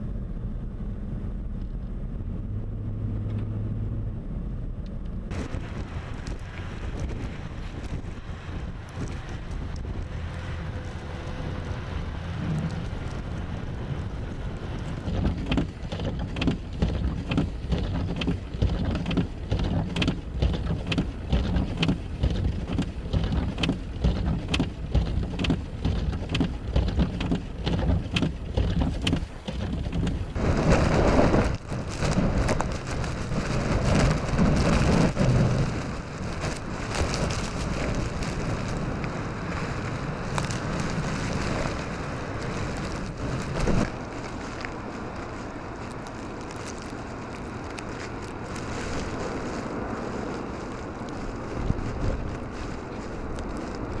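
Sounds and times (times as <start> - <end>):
low vehicle rumble: 0.0 - 54.0
snow ticking against surface: 5.3 - 54.0
wind buffeting microphone: 5.3 - 54.0.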